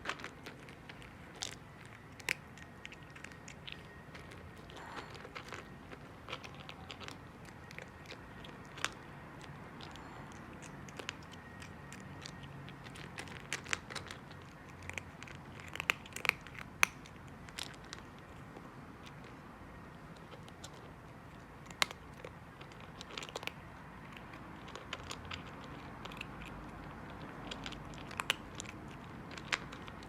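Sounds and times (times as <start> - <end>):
cat eating with crunching chews: 0.0 - 30.0.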